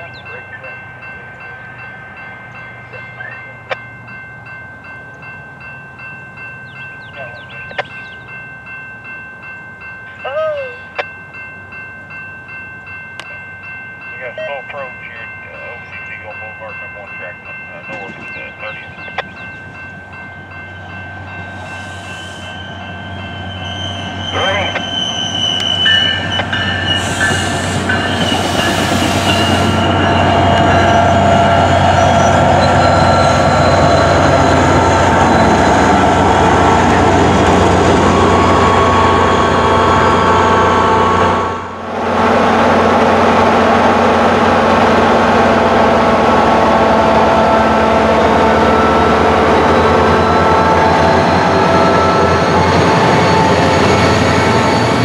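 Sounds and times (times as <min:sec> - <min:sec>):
diesel locomotive rumble: 0:00.0 - 0:55.0.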